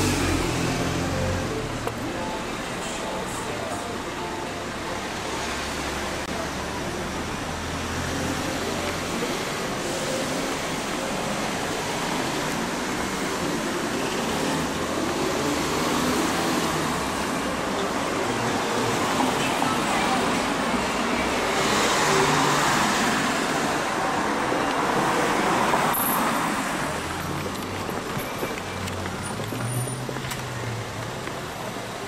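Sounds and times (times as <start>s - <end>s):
cars driving past: 0.0s - 3.9s, 4.6s - 32.0s.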